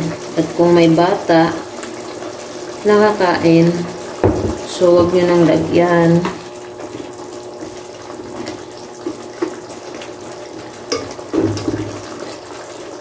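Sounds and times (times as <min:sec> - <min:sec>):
sauce simmering and bubbling: 0:00.0 - 0:13.0.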